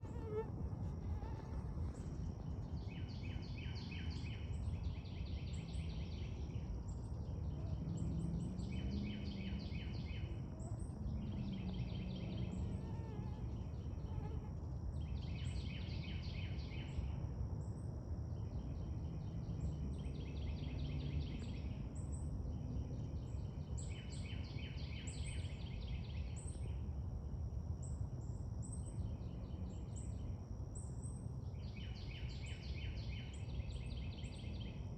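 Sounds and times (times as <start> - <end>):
insects chirping: 0.0 - 34.9.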